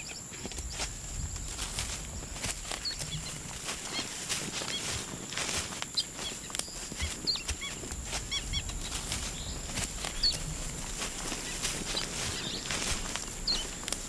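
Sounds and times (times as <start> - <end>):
small birds chirping: 0.0 - 14.0
footsteps on rocky path: 0.3 - 14.0.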